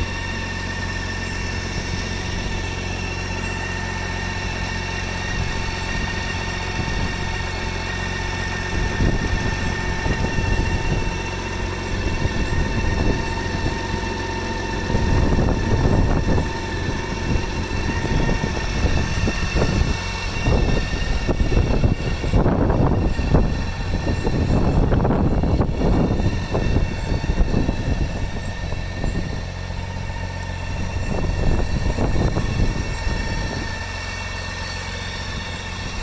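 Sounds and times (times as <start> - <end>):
motorcycle engine idling: 0.0 - 36.0.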